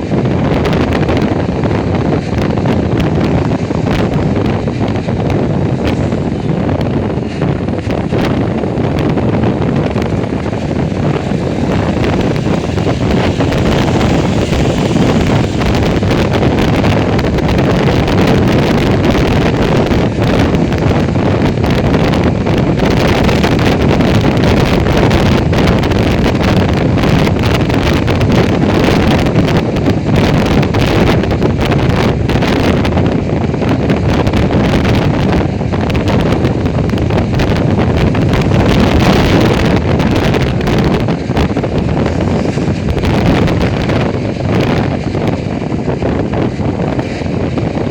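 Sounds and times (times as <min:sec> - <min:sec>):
motorcycle road noise: 0:00.0 - 0:47.9
wind buffeting microphone: 0:00.0 - 0:47.9.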